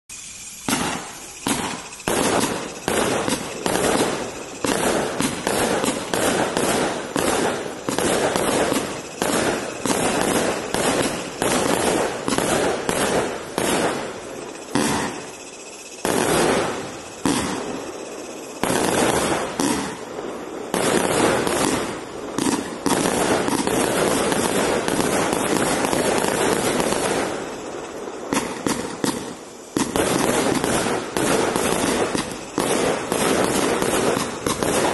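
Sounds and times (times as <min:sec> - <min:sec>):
firework crackling: 0:00.1 - 0:34.9
firework launch shots and bursts: 0:00.1 - 0:34.9.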